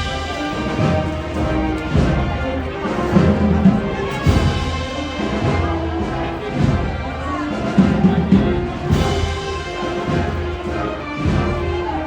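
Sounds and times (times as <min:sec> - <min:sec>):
bass drum beats: 0:00.0 - 0:12.0
brass and wind band chords: 0:00.0 - 0:12.0.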